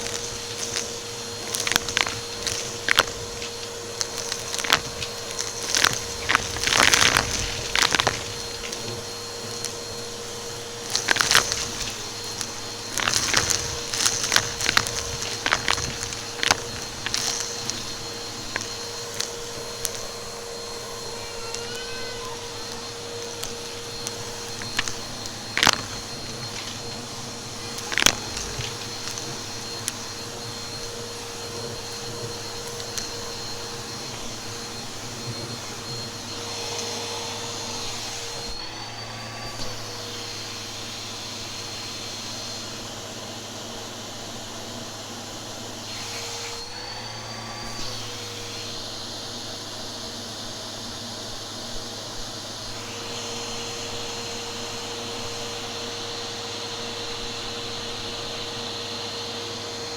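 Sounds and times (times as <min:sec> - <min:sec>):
vacuum cleaner crackles: 0:00.0 - 0:59.9
vacuum cleaner running: 0:00.0 - 0:59.9.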